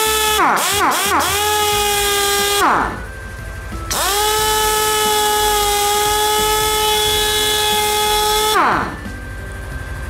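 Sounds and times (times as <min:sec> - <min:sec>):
pneumatic impact wrench whining: 0:00.0 - 0:09.1.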